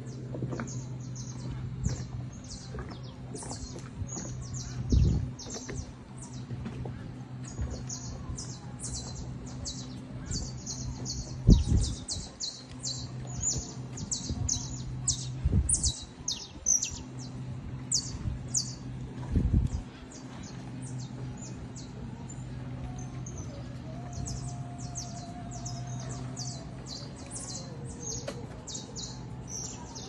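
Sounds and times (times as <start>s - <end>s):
birds chirping: 0.0s - 30.0s
steady low hum: 0.0s - 30.0s.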